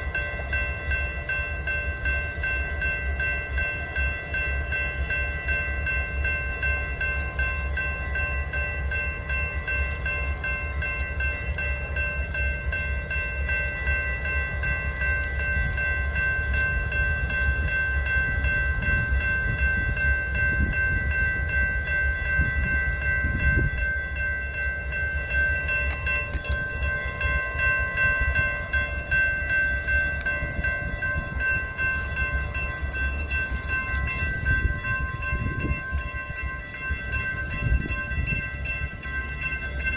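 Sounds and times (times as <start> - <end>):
high-pitched ringing tones: 0.0 - 39.9
train rumbling by: 0.0 - 39.9.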